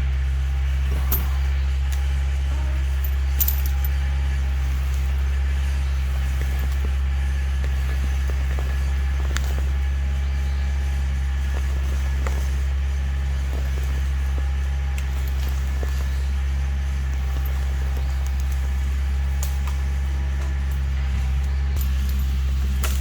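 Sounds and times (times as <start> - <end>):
diesel tractor engine humming: 0.0 - 23.0.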